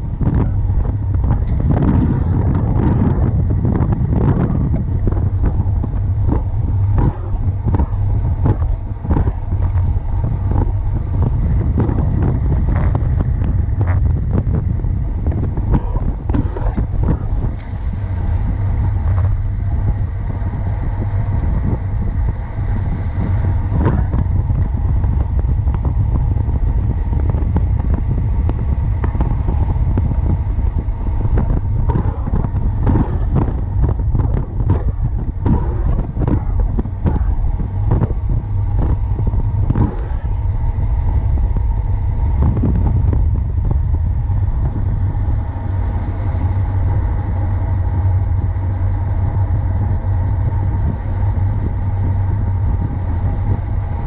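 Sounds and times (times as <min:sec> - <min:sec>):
road knocks and rattles: 0:00.0 - 0:54.0
wind buffeting microphone: 0:00.0 - 0:54.0.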